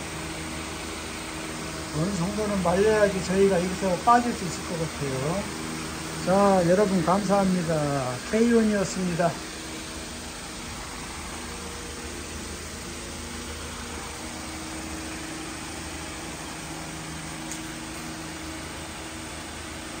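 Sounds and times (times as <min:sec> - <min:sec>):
electric fan air rush: 0:00.0 - 0:20.0
faint low motor hum: 0:00.0 - 0:20.0.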